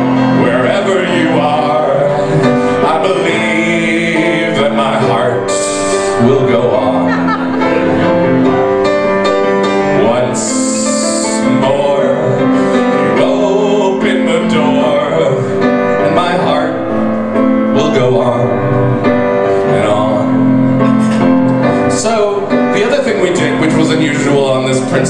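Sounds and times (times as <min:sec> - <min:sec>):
man singing: 0:00.0 - 0:25.0
piano accompaniment: 0:00.0 - 0:25.0.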